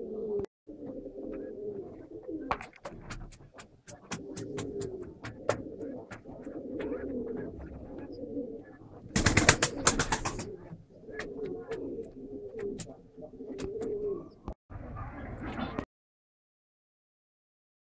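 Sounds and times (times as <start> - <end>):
pigeons cooing: 0.0 - 15.8.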